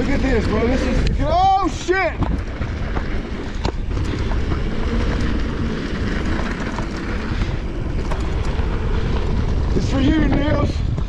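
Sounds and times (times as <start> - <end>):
bike rattling: 0.0 - 11.0
tyres rumbling on dirt: 0.0 - 11.0.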